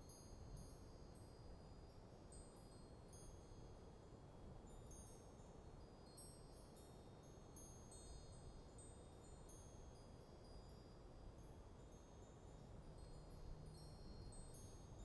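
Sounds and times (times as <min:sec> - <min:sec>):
low rumble of breeze: 0:00.0 - 0:15.0.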